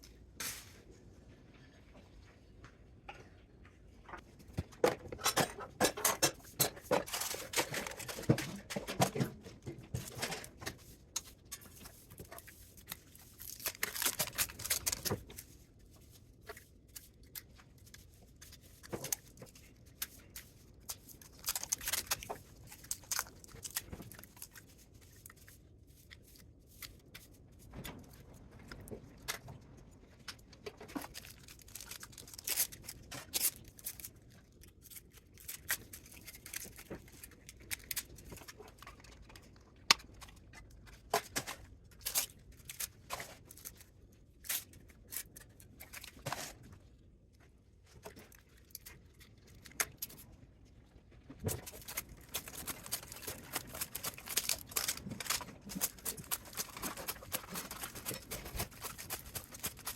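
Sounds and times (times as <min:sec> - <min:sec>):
metal foil crinkling: 0:05.3 - 0:28.4, 0:30.3 - 0:46.7, 0:51.4 - 0:59.9.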